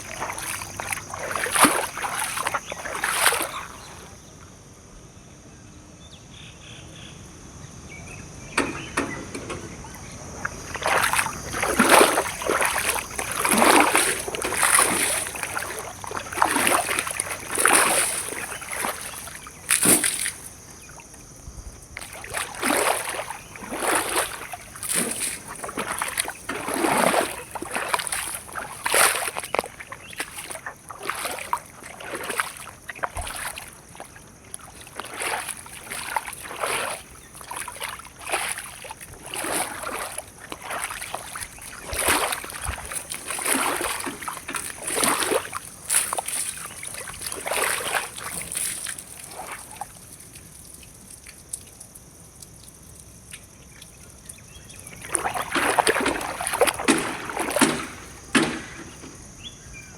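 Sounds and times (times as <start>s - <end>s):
water sloshing and splashing: 0.0s - 4.3s, 8.6s - 59.9s.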